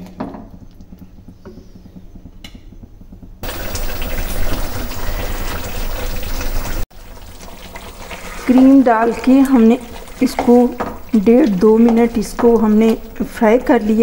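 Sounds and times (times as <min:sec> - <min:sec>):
gravy bubbling in a wok: 0:00.1 - 0:14.0
spatula stirring: 0:00.5 - 0:14.0.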